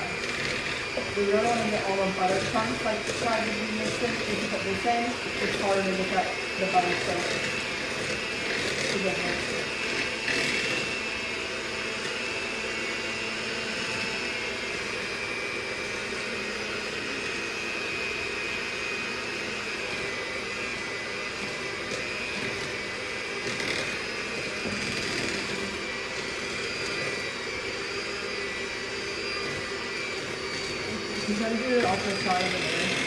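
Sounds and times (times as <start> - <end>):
electric hand mixer whining: 0.0 - 33.0.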